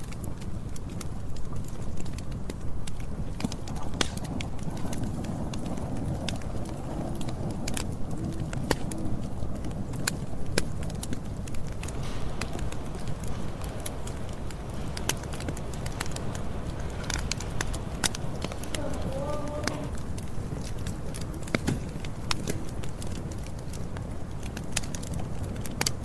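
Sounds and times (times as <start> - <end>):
low rumble of flames: 0.0 - 26.0
wood crackling and popping: 0.0 - 26.0.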